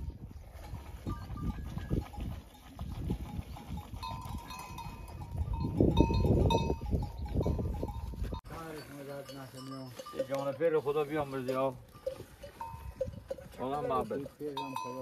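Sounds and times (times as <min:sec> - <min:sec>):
goats and sheep moving about: 0:00.0 - 0:15.0
livestock bell clinking: 0:00.0 - 0:15.0.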